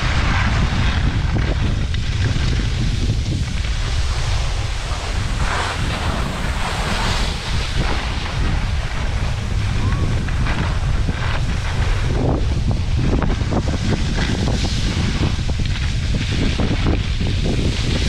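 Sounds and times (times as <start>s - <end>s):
skis scraping on packed snow: 0.0s - 18.0s
wind buffeting microphone: 0.0s - 18.0s.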